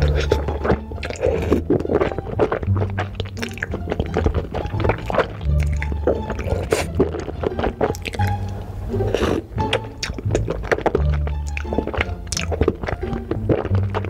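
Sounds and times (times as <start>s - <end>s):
background music with deep bass: 0.0s - 14.0s
slurping and chewing: 0.0s - 14.0s.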